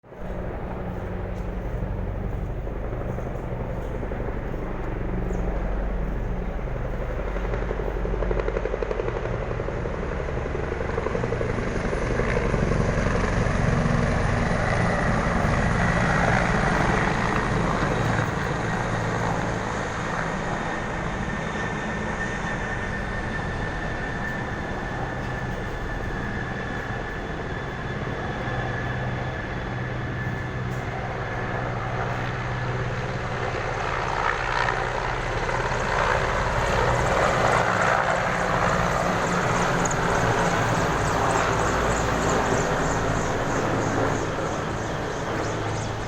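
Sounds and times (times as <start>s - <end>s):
turbine whine: 0.0s - 8.5s, 12.2s - 46.0s
helicopter rotor chop: 0.1s - 46.0s.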